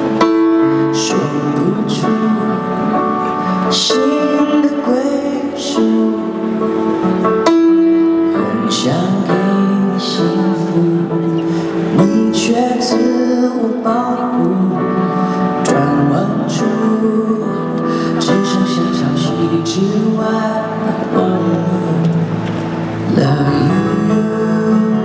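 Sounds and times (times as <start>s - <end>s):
grand piano: 0.0s - 25.0s
person singing: 0.0s - 25.0s.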